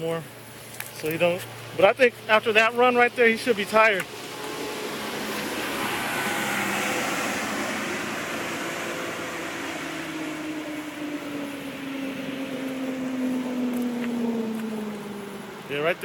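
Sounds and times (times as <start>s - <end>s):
engine droning: 0.0s - 16.0s
rushing background noise: 0.0s - 16.0s.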